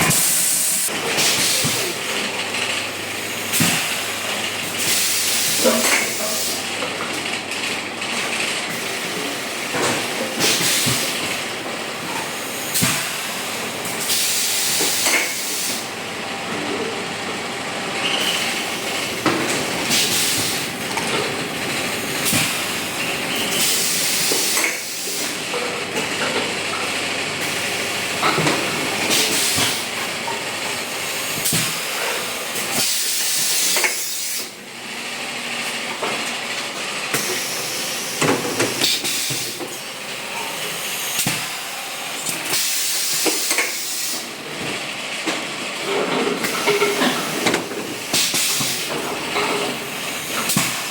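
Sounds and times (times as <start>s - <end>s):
air compressor running: 0.0s - 50.9s.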